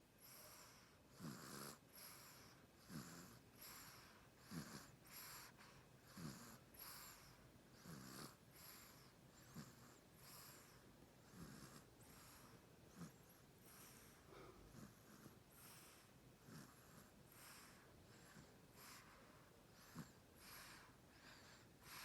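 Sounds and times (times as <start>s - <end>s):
soft snoring: 0.2s - 22.0s.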